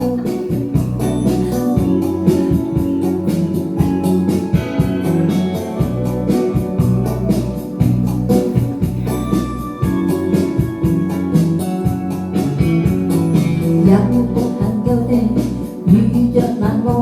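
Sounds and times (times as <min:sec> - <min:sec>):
steady drum beat: 0:00.0 - 0:16.1
bass line: 0:00.0 - 0:17.0
sustained keyboard chords: 0:00.0 - 0:17.0.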